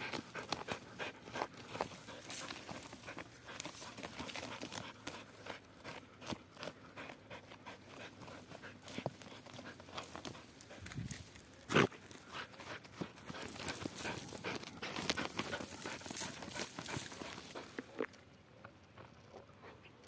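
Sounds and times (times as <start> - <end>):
dog panting: 0.0 - 11.0, 11.8 - 17.8
rustling of dry twigs: 0.0 - 18.2.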